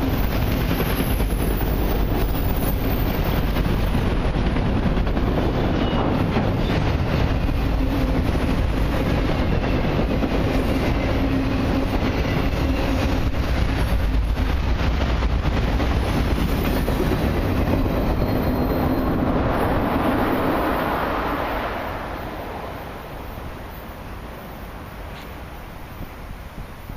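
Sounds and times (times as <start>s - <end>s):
train wheels rumbling on rail: 0.0s - 26.9s.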